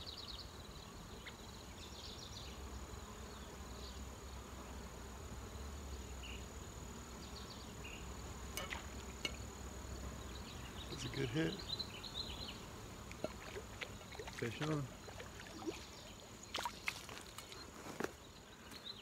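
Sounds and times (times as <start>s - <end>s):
high-pitched insect buzz: 0.0s - 19.0s.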